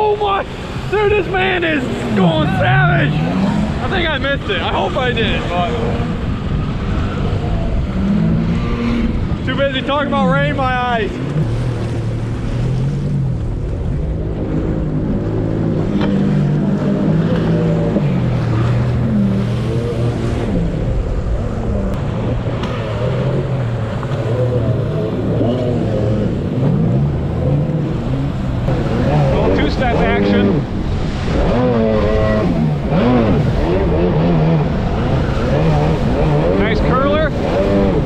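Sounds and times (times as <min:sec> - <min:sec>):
jet ski engine running: 0:00.0 - 0:38.0
wind and water rushing: 0:00.0 - 0:38.0.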